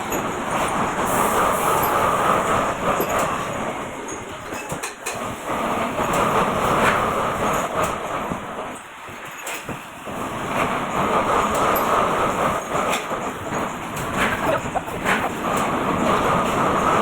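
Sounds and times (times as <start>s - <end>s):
machinery running roughly: 0.0s - 17.0s.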